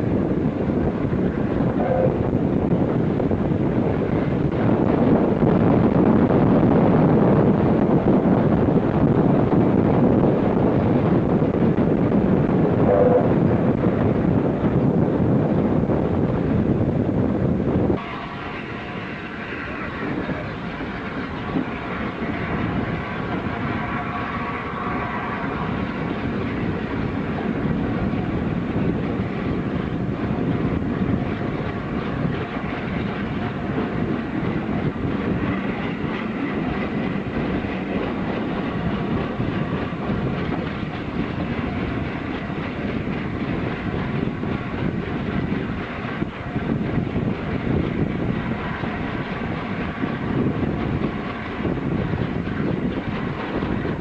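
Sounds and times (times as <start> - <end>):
train running on track: 0.0 - 54.0.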